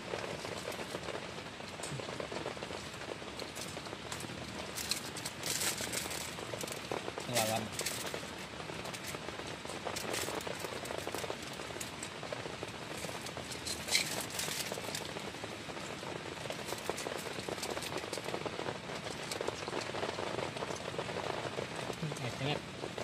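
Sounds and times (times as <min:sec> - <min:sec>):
heavy rain: 0:00.0 - 0:23.0
raindrops ticking close by: 0:00.0 - 0:23.0.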